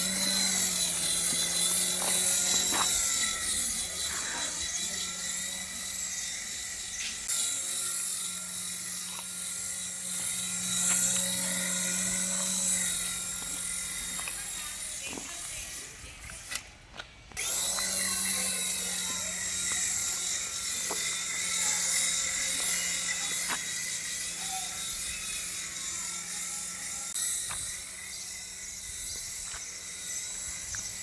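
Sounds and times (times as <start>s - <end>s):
small electric motor whine: 0.0s - 31.0s.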